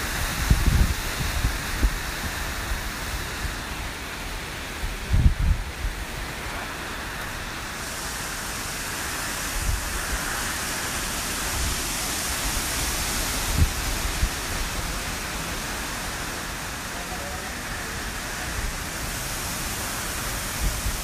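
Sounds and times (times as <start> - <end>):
hurricane wind and rain: 0.0 - 21.0
wind gusts thumping on microphone: 0.0 - 21.0.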